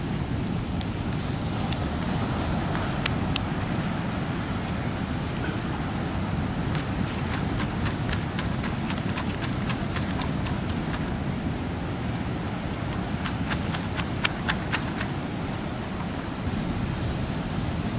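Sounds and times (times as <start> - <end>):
wind: 0.0 - 17.9.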